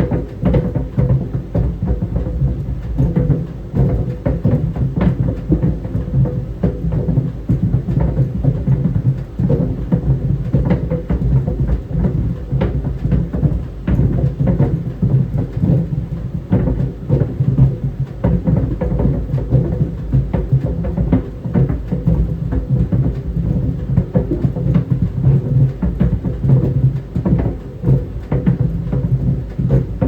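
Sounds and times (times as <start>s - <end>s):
balls thudding in dryer drum: 0.0s - 30.0s
clothes dryer drum rumbling: 0.0s - 30.0s.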